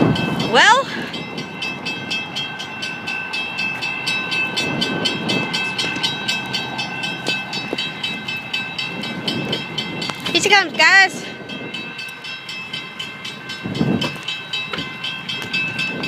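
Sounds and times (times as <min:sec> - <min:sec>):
railroad crossing bells ringing: 0:00.0 - 0:16.0.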